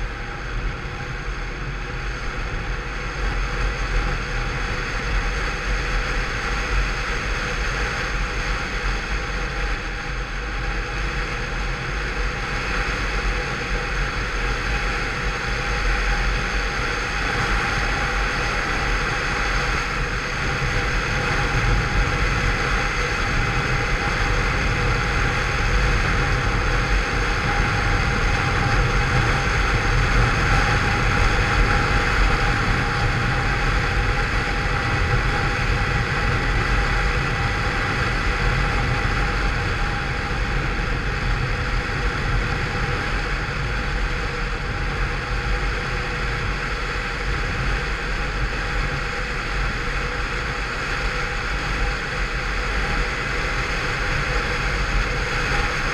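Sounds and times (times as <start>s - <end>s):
road noise: 0.0s - 55.9s
wind noise: 0.0s - 55.9s.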